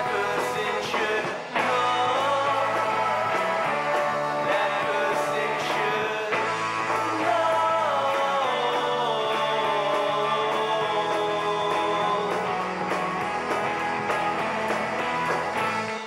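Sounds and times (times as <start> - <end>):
music with guitar: 0.0 - 16.0.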